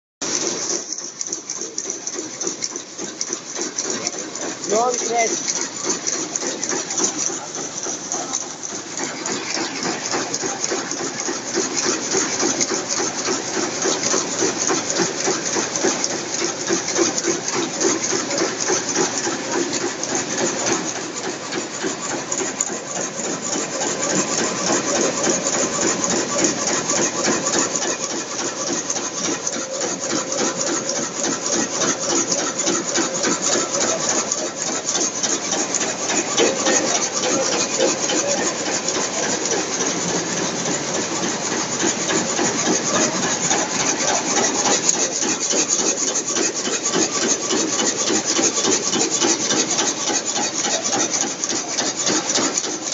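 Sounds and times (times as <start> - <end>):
loom mechanical clatter: 0.2 - 52.9.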